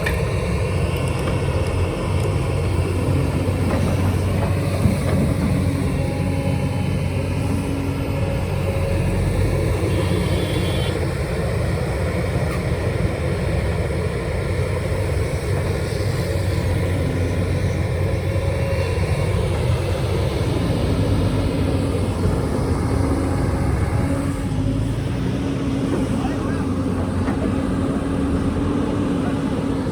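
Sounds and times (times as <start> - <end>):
diesel engine humming: 0.0 - 29.9.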